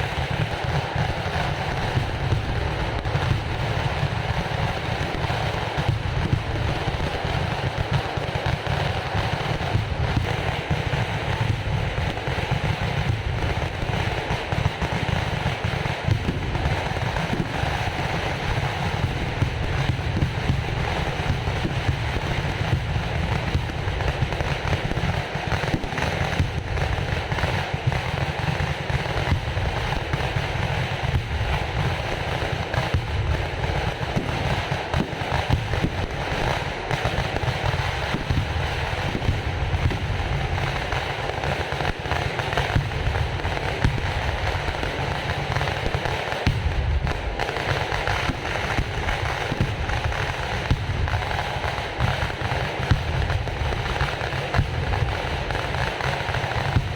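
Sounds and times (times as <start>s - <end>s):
firecrackers crackling: 0.0s - 56.9s.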